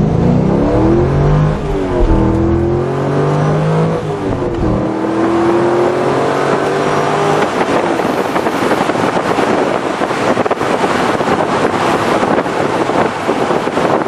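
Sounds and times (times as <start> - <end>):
car engine accelerating hard: 0.0 - 14.0
wind and road noise: 0.0 - 14.0.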